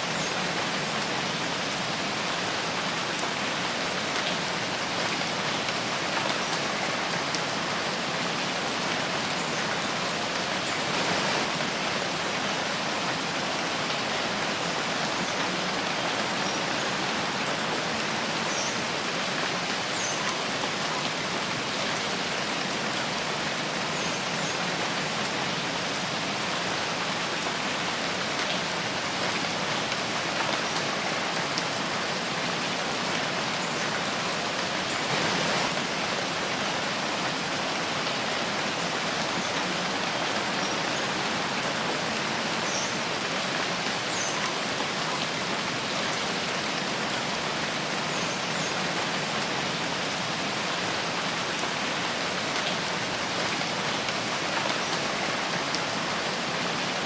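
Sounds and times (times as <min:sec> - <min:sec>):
rain falling in a forest: 0:00.0 - 0:57.0.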